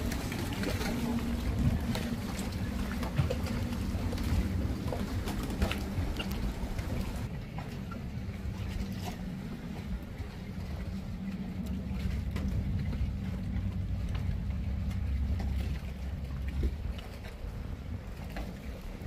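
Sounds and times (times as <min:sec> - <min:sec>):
motorboat engine humming: 0:00.0 - 0:19.0.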